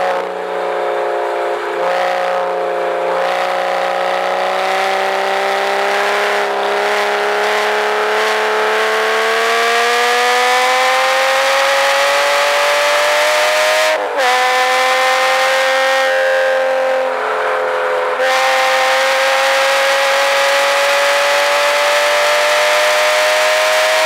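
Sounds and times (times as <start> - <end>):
car engine revving in cabin: 0.0 - 24.0.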